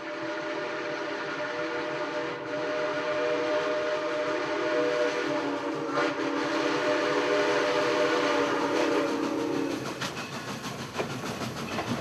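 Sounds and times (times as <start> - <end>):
steam whistle blast: 0.0 - 10.0
hiss of steam: 0.0 - 12.0.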